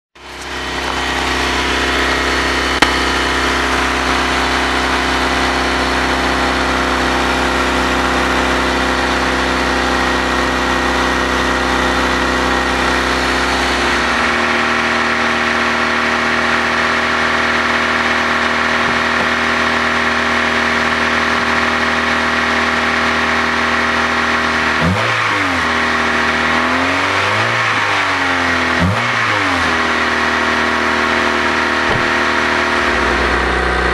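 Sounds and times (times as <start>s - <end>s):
car engine idling: 0.2s - 25.0s, 25.6s - 33.9s
exhaust leaking: 0.2s - 27.9s, 28.6s - 33.9s
engine revving: 0.2s - 33.9s.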